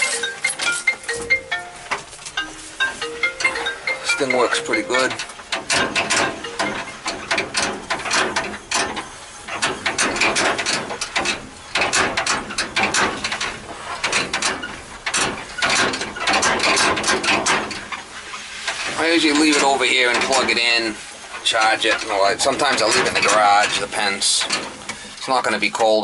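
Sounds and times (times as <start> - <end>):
utility cart rattling over bumps: 0.0 - 26.0.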